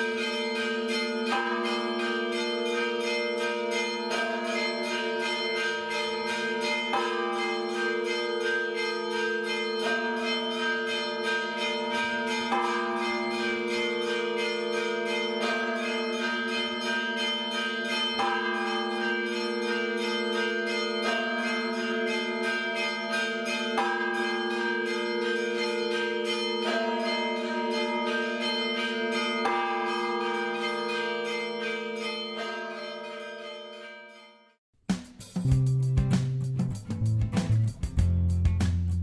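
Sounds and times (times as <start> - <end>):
bells ringing in a peal: 0.0 - 34.6.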